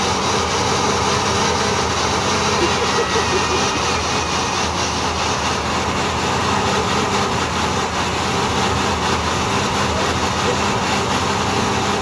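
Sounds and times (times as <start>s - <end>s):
van engine revving: 0.0s - 12.0s.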